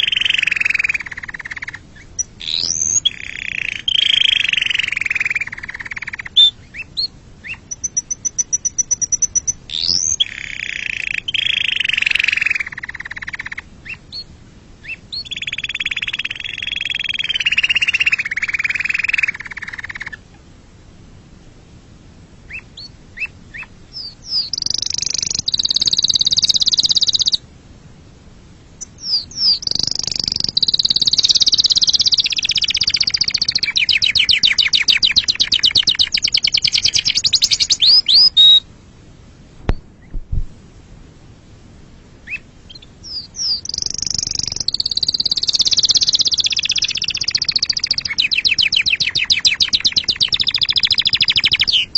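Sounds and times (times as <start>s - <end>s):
canary singing trills: 0.0s - 20.4s, 22.4s - 27.4s, 28.8s - 38.7s, 42.2s - 51.9s.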